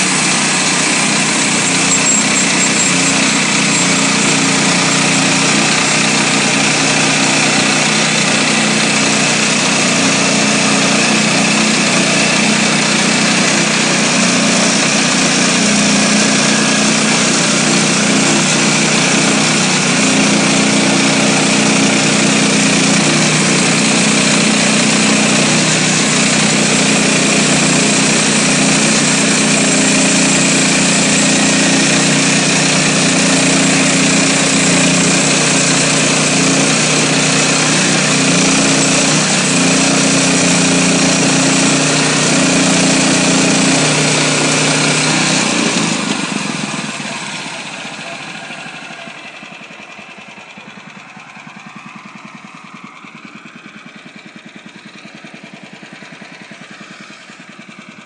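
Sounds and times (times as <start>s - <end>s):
band blade cutting log: 0.0s - 48.4s
gasoline engine running: 0.0s - 58.0s.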